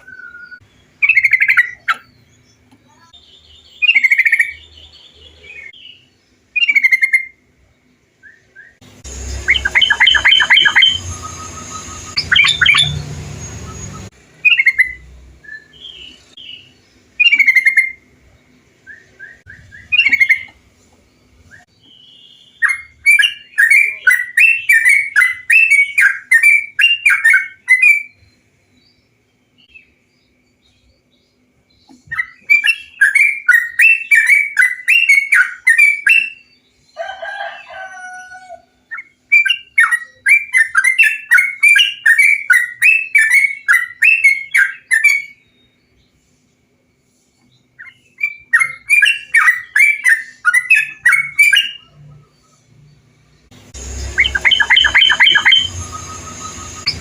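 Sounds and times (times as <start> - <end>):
bulbul chattering song: 0.0 - 37.7, 38.8 - 57.0.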